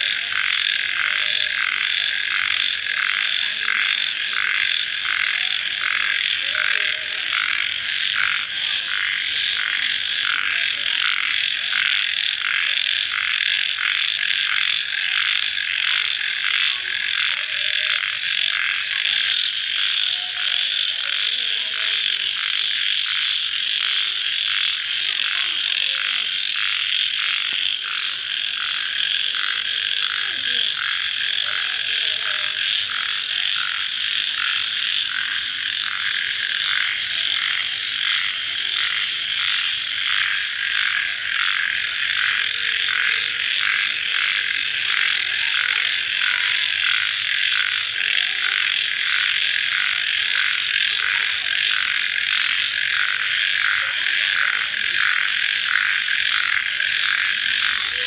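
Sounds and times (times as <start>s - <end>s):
crickets and frogs trilling: 0.0s - 58.0s.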